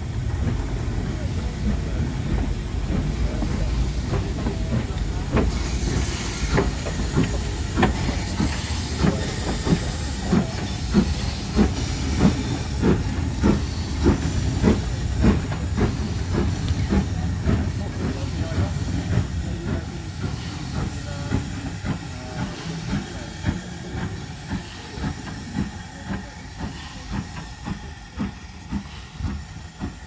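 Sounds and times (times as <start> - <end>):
steam hissing: 0.0 - 30.0
steam locomotive chuffing: 0.0 - 30.0.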